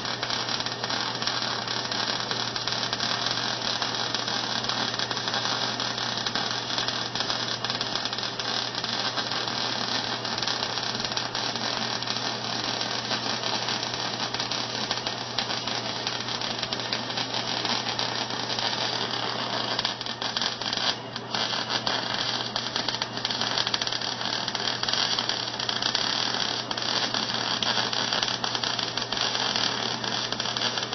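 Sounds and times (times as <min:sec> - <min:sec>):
welding arc crackling: 0:00.0 - 0:30.9.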